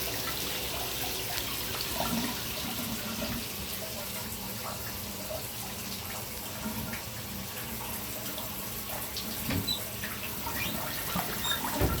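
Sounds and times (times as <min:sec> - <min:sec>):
water drips and splashes: 0:00.0 - 0:12.0
water running from shower: 0:00.0 - 0:12.0.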